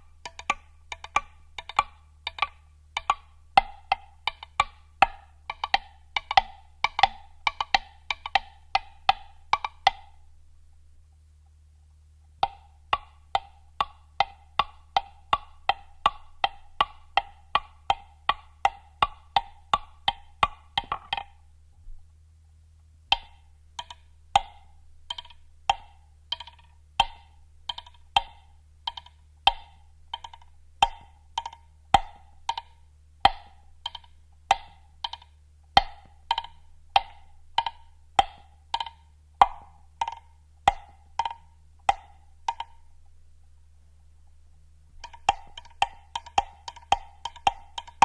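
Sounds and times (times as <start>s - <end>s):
woodblock knocks: 0.0s - 10.2s, 12.4s - 21.4s, 23.1s - 42.9s, 45.0s - 48.0s.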